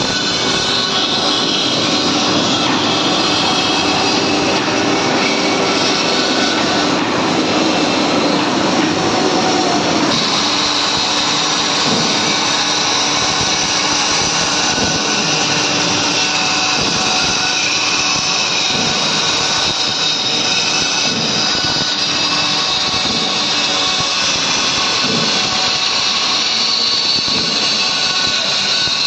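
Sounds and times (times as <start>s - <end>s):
band saw cutting wood: 0.0s - 29.0s.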